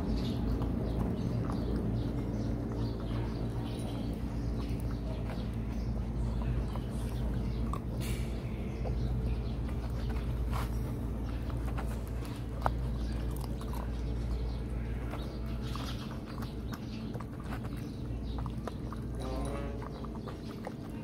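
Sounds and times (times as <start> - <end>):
puppy chewing and lapping: 0.0 - 21.0.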